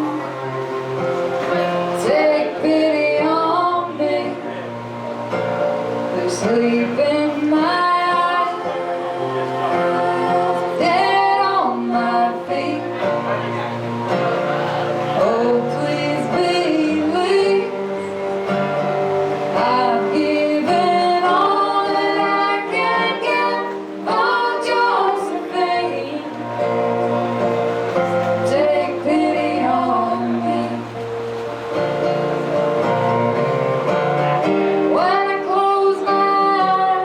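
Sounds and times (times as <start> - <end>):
women singing: 0.0 - 31.3, 34.1 - 37.0
folk string band playing: 0.0 - 37.0.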